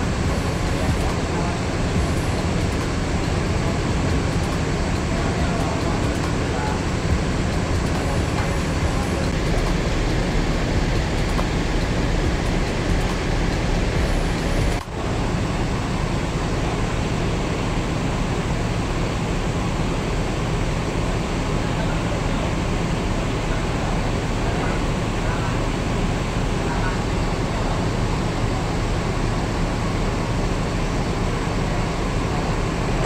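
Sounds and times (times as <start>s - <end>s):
bus diesel engine idling: 0.0s - 33.0s
terminal background noise: 0.0s - 33.0s.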